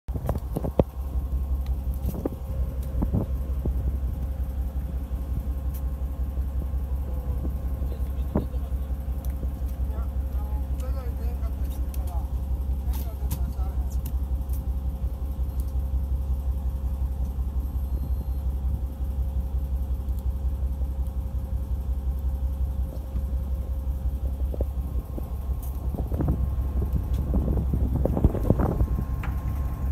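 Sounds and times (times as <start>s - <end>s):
boat engine droning: 0.1s - 29.9s.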